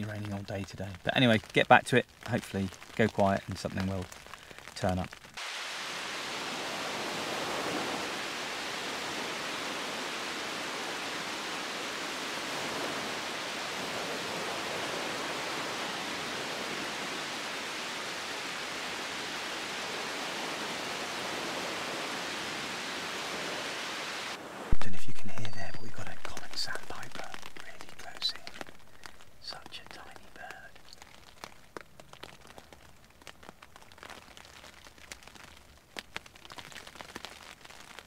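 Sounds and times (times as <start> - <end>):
outdoor ambient hiss: 0.0 - 38.0.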